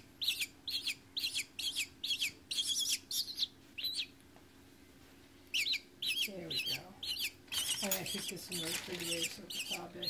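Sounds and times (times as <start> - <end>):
young hawks shrill chirping: 0.2 - 4.1, 5.6 - 10.0.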